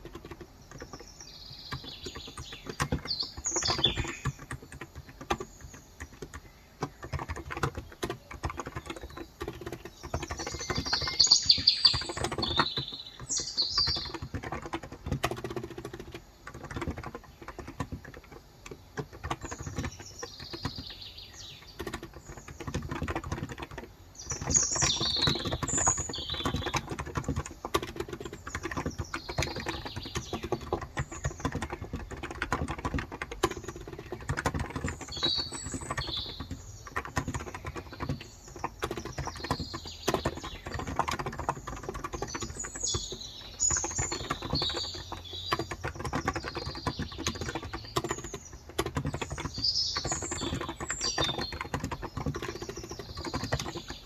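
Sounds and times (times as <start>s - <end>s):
birds chirping: 0.0s - 54.0s
fast keyboard typing: 0.0s - 54.0s.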